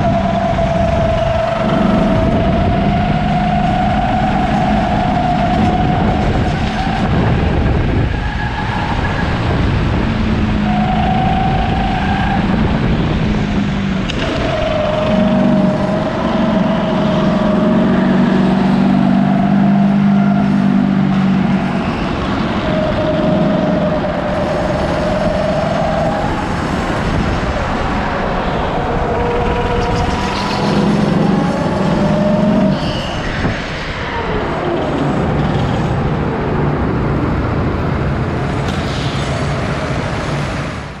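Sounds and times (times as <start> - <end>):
go-kart engine revving: 0.0 - 40.8.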